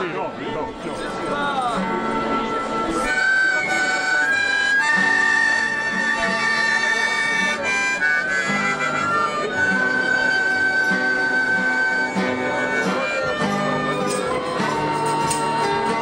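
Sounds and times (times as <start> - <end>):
strummed acoustic guitars: 0.0 - 16.0
high-pitched wind instrument melody: 0.8 - 16.0.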